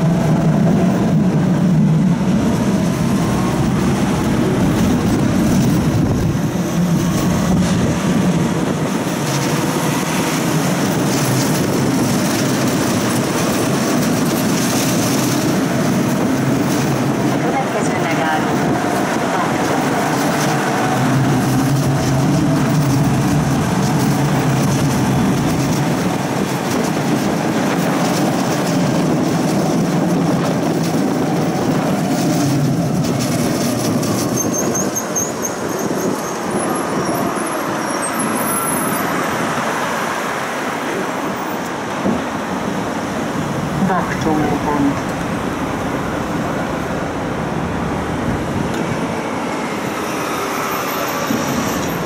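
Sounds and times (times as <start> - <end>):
tram motors and wheels hum: 0.0 - 52.0.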